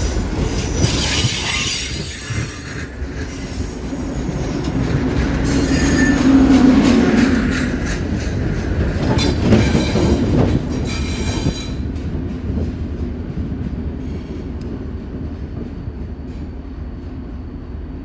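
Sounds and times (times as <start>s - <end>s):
train passing: 0.0s - 18.0s.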